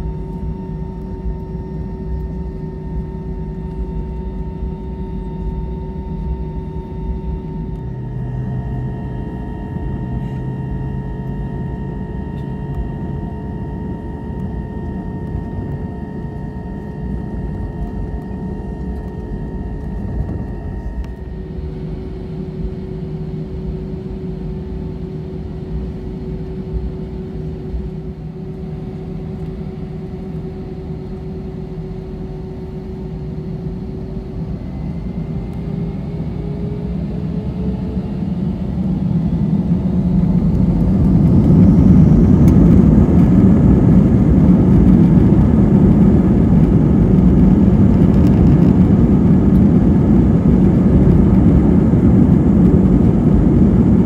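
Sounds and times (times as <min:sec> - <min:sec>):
jet engines humming and whining: 0:00.0 - 0:54.0.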